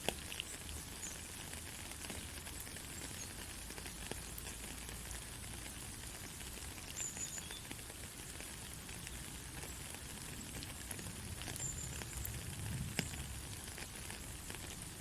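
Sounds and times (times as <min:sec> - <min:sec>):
drip ticks: 0:00.0 - 0:14.8
gentle rain hiss: 0:00.0 - 0:15.0.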